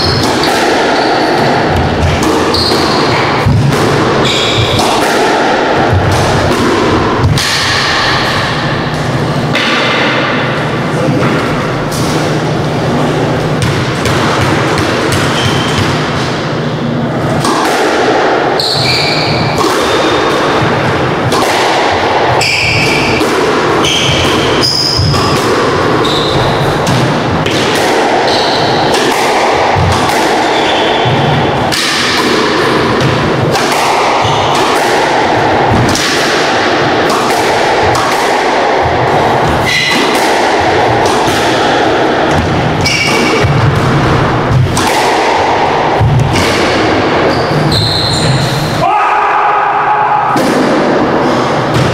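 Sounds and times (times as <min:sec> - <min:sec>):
squash ball hitting rackets and walls: 0:00.0 - 0:48.9, 0:50.1 - 0:51.9.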